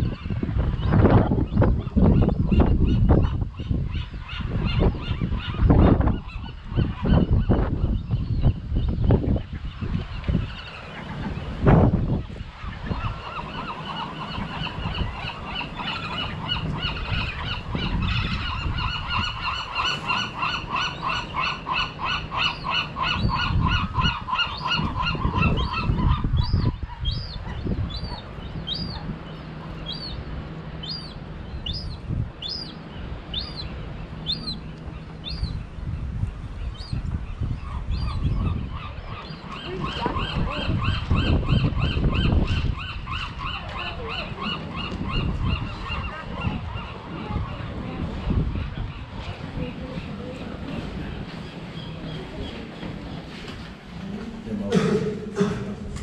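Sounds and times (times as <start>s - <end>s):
birds calling: 0.0s - 56.0s.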